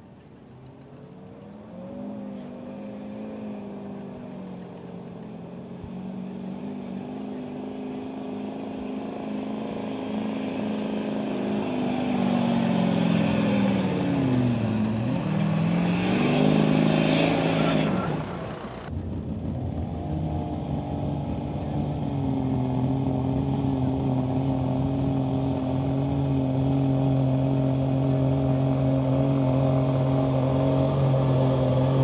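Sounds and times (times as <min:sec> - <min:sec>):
pickup engine under heavy load: 0:00.0 - 0:32.0.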